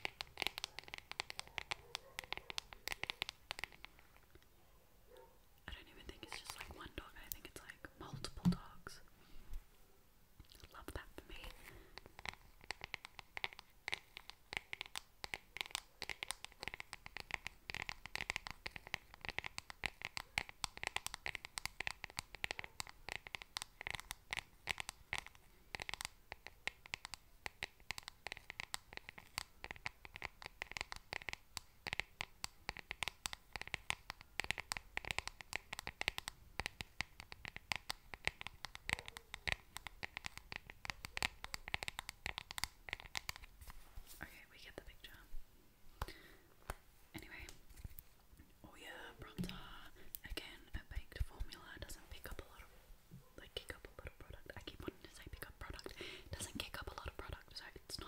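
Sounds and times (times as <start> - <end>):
crinkling: 0.0 - 4.5, 5.1 - 9.1, 10.4 - 58.0.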